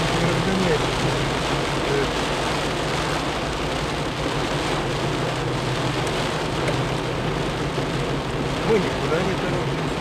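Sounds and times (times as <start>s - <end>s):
car interior hum: 0.0s - 10.0s
heavy rain on car windshield: 0.0s - 10.0s.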